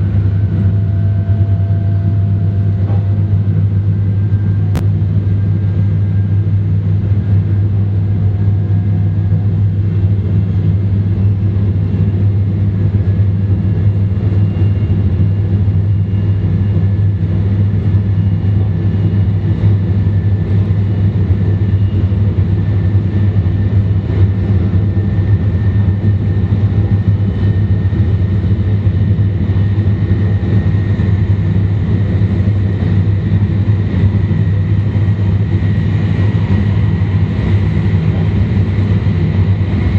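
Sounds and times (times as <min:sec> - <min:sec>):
train interior deep rumble: 0:00.0 - 0:39.9.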